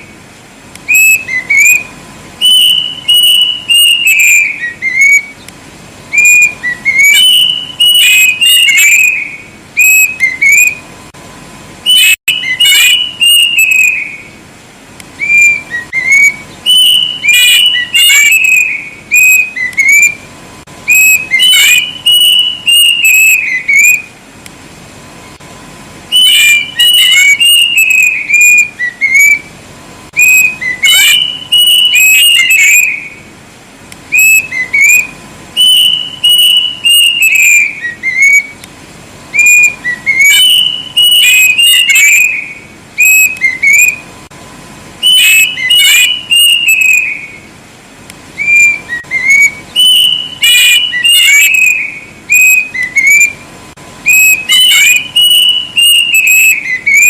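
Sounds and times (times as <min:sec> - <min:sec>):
cuckoo singing whistled phrases: 0:00.0 - 0:10.9, 0:11.8 - 0:14.4, 0:15.0 - 0:24.2, 0:26.1 - 0:33.3, 0:34.1 - 0:38.6, 0:39.3 - 0:44.1, 0:45.0 - 0:47.6, 0:48.3 - 0:57.0.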